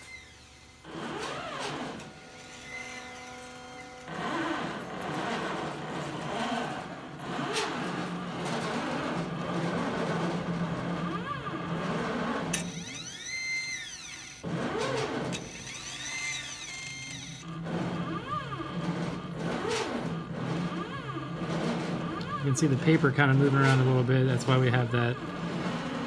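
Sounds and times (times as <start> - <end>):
motors whining: 0.0 - 26.0.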